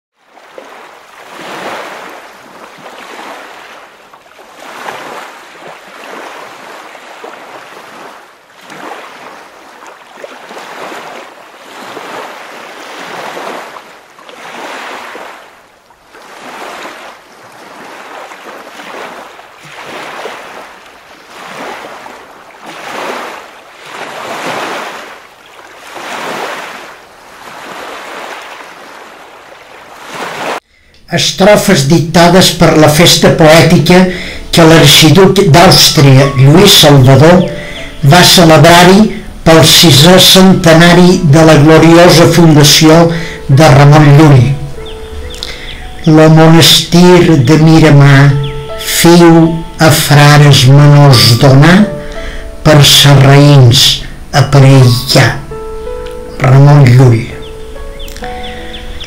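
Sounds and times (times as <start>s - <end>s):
sea waves surging: 0.1s - 59.0s.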